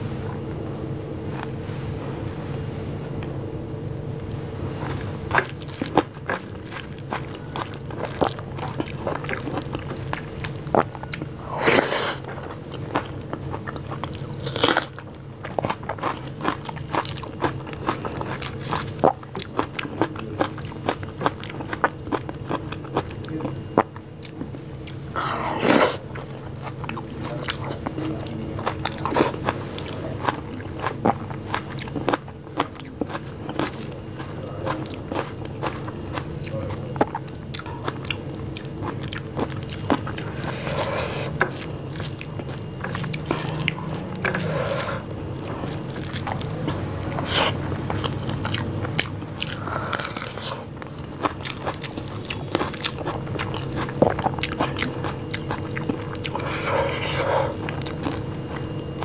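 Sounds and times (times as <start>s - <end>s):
faint steady hum: 0.0s - 59.0s
person chewing food: 4.8s - 59.0s.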